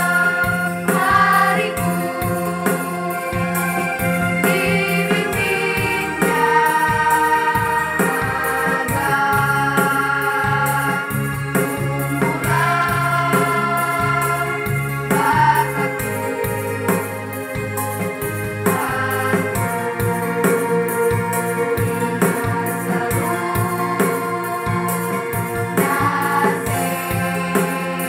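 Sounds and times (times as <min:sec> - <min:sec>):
girls' choir singing: 0:00.0 - 0:16.4, 0:18.7 - 0:28.0
instrumental backing with beat: 0:00.0 - 0:28.0.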